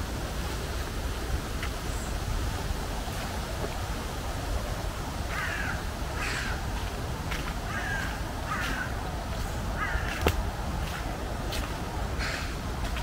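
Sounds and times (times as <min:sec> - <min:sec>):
low background rush: 0:00.0 - 0:13.0.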